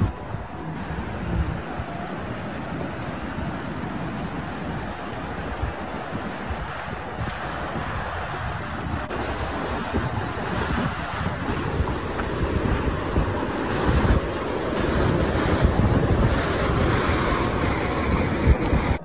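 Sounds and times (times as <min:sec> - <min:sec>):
river rushing over boulders: 0:00.0 - 0:19.0
wind buffeting microphone: 0:00.0 - 0:19.0.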